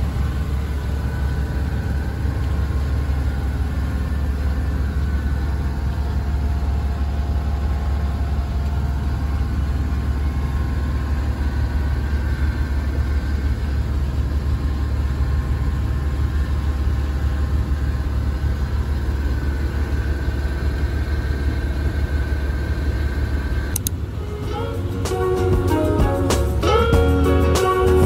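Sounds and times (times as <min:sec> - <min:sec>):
engine running with deep hum: 0:00.0 - 0:28.0.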